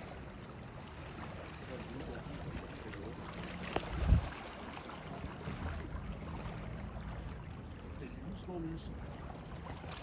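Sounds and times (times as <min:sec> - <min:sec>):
sea water lapping: 0:00.0 - 0:10.0.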